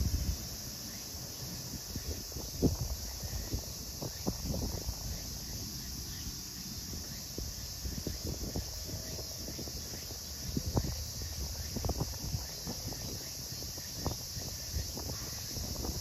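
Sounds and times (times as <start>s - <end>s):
insects chorus: 0.0s - 16.0s
wind buffeting microphone: 0.0s - 16.0s.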